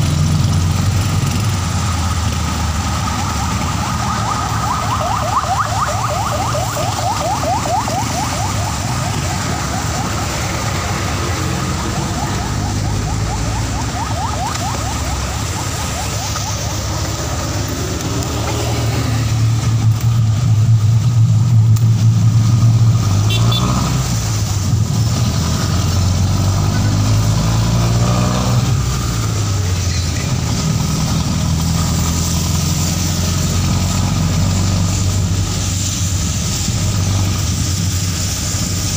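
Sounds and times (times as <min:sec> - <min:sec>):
vehicle engine drone: 0:00.0 - 0:38.9
wet-road traffic noise: 0:00.0 - 0:38.9.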